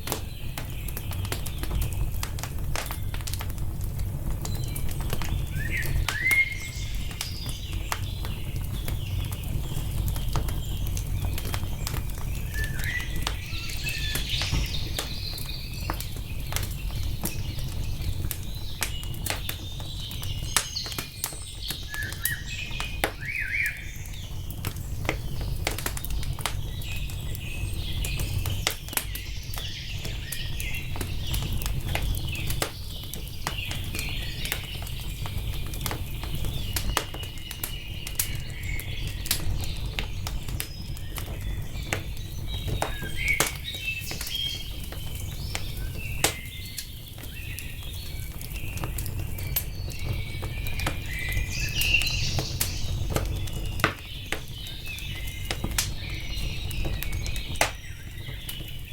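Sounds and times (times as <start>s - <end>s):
songbirds chirping: 0.0s - 58.9s
wood fire crackling and popping: 0.0s - 58.9s.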